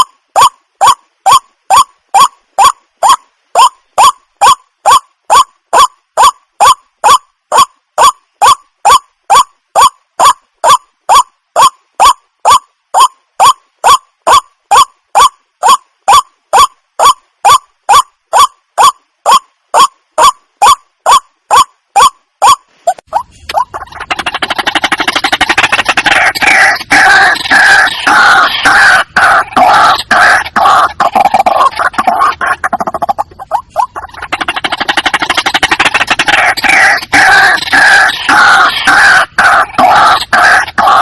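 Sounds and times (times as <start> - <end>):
waterhen calling: 0.0 - 41.0.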